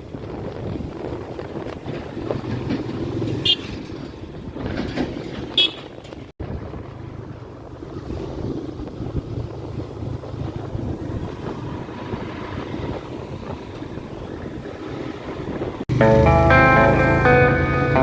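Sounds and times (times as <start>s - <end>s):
wind buffeting microphone: 0.0s - 15.9s
motorcycle engine rumble: 0.0s - 18.0s.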